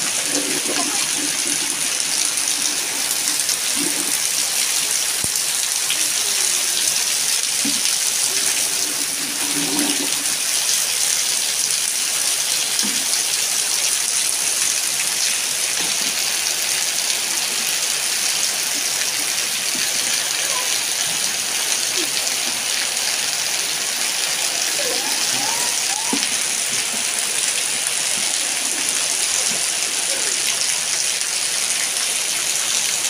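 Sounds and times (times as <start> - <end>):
heavy rain on concrete: 0.0 - 33.0
runoff water splashing: 0.0 - 33.0.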